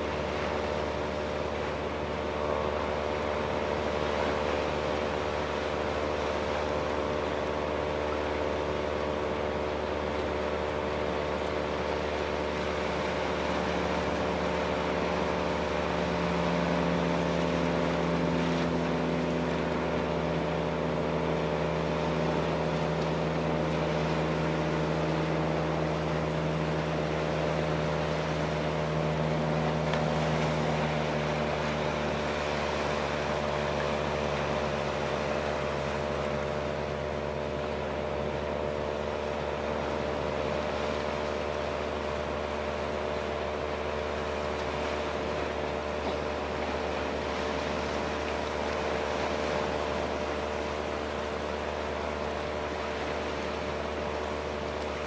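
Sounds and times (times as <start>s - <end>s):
engine hum with steady tones: 0.0s - 55.0s.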